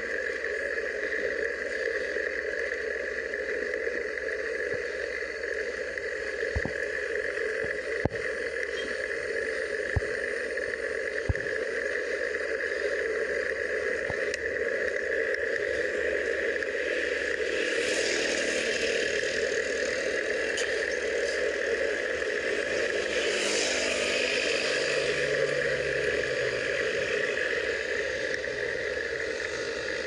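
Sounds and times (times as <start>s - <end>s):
bicycle tyre noise on asphalt: 0.0s - 30.0s.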